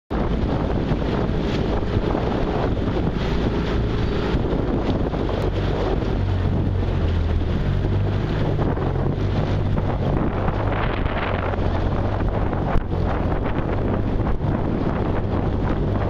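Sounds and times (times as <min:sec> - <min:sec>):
motorboat engine hum: 0:00.1 - 0:16.0
wind buffeting microphone: 0:00.1 - 0:16.0.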